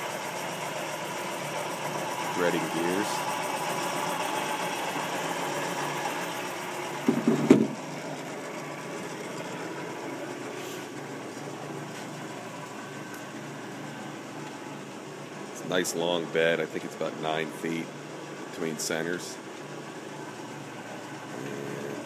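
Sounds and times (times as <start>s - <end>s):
lathe gears running: 0.0s - 22.0s.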